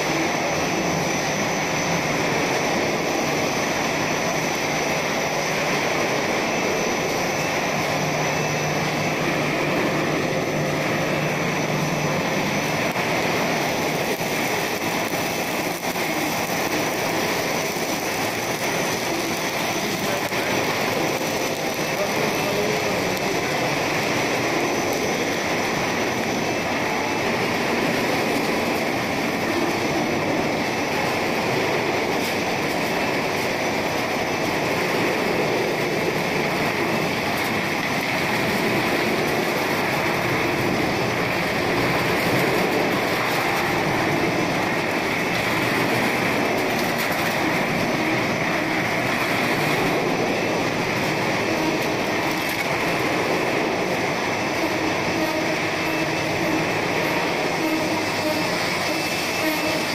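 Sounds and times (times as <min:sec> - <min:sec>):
production line machinery din: 0:00.0 - 0:59.9.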